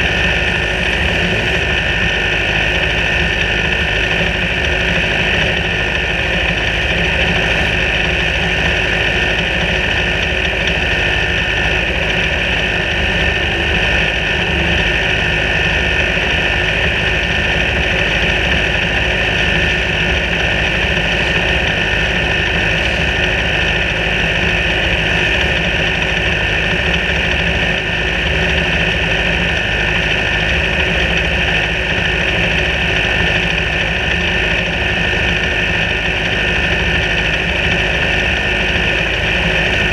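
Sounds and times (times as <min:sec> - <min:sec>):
racing car engines idling: 0:00.0 - 0:39.9.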